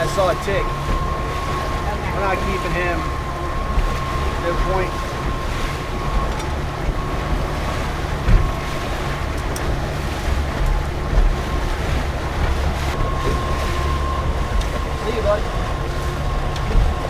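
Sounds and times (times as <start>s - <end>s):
boat motor running: 0.0s - 17.0s
water against hull: 0.0s - 17.0s.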